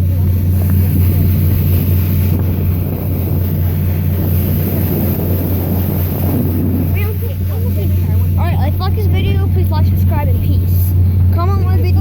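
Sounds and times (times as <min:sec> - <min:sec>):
boat engine droning: 0:00.0 - 0:12.0
wind on microphone: 0:00.0 - 0:12.0.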